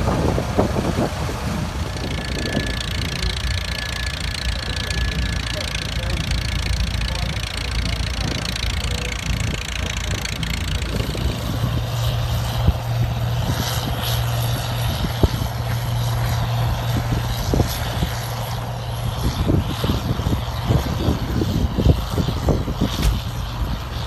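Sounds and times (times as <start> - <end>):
bulldozer diesel engine drone: 0.0 - 24.0
old tractor engine running: 0.0 - 24.0
wind buffeting microphone: 0.0 - 24.0.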